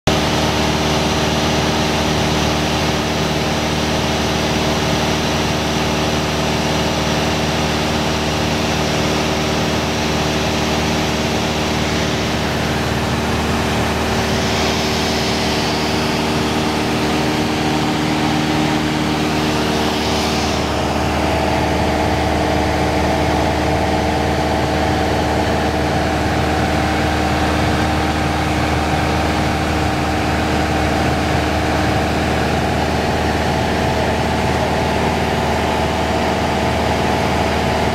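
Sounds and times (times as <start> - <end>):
aircraft engine and propeller drone: 0.1 - 37.9.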